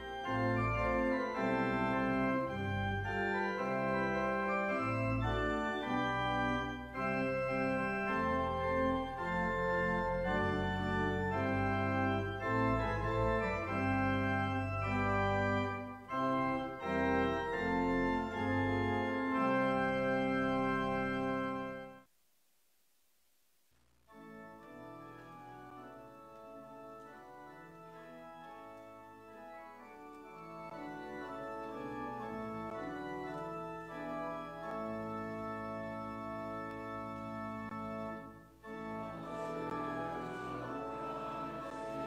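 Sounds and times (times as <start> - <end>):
pipe organ playing chords: 0.0 - 22.0, 24.1 - 42.0.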